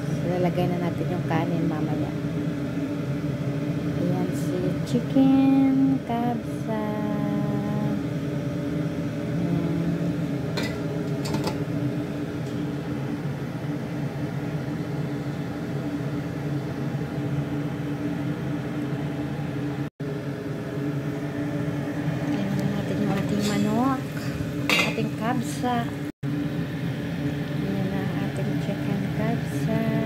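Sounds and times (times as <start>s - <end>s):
low mechanical hum and whir: 0.0s - 30.0s.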